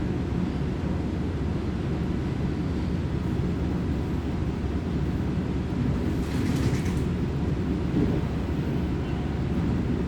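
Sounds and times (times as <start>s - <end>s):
railcar interior rumble: 0.0s - 10.0s.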